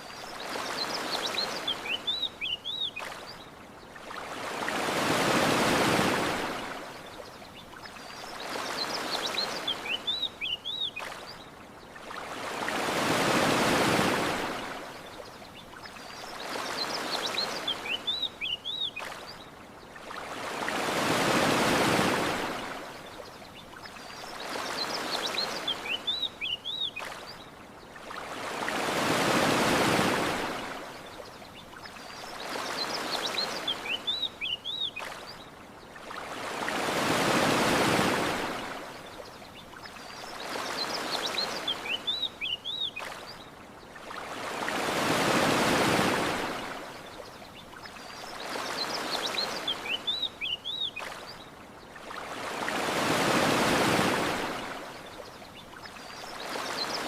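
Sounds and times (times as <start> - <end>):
ocean waves washing onto shore: 0.0 - 57.0.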